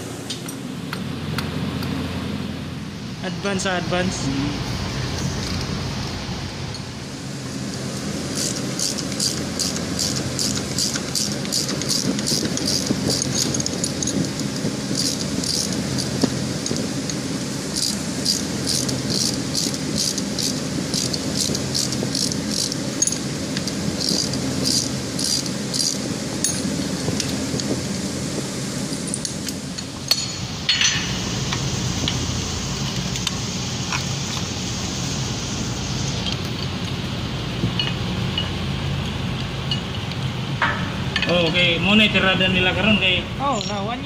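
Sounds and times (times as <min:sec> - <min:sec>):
low machinery hum: 0:00.0 - 0:44.0.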